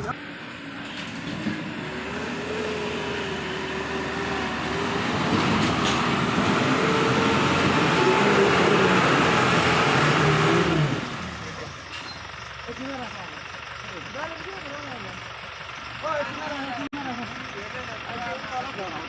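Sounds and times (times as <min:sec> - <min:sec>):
diesel truck engine labouring: 0:00.0 - 0:19.0.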